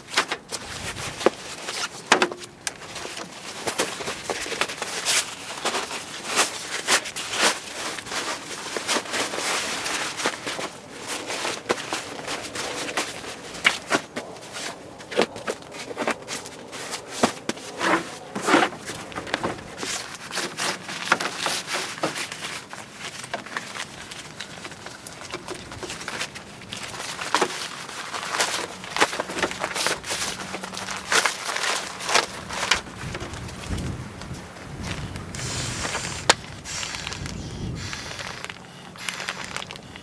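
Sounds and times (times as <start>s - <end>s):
crunching and crackling: 0.0s - 40.0s.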